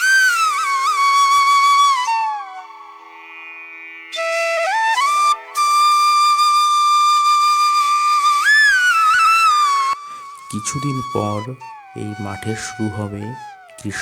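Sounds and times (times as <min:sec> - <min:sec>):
solo flute melody: 0:00.0 - 0:14.0.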